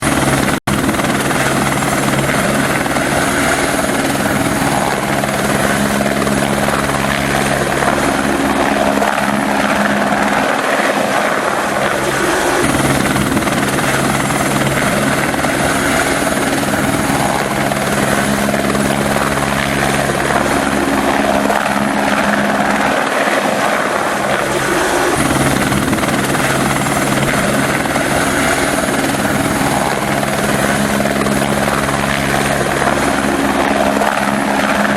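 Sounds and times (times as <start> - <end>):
helicopter rotor and engine drone: 0.0 - 34.9.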